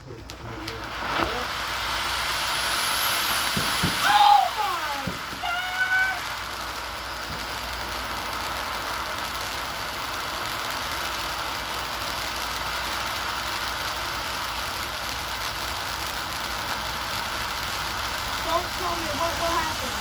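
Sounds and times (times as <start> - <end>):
firework hissing: 0.0 - 20.0.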